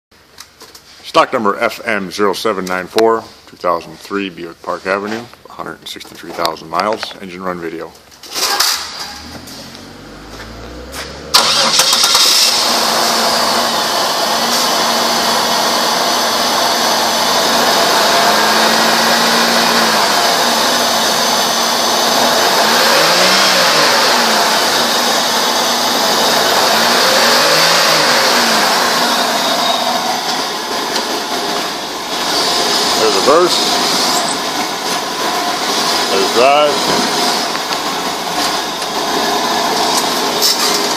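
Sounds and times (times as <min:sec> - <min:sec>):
car engine starting and running: 0:04.5 - 0:40.9.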